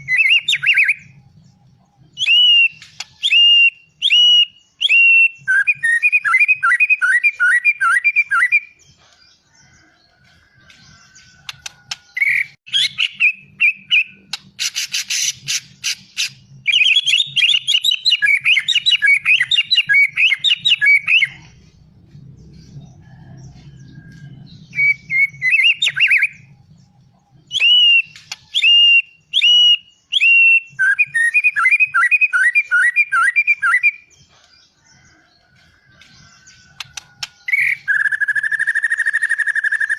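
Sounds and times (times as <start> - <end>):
songbird singing whistled phrases: 0.0 - 8.8, 10.9 - 21.6, 23.9 - 26.6, 27.5 - 34.1, 36.0 - 39.9.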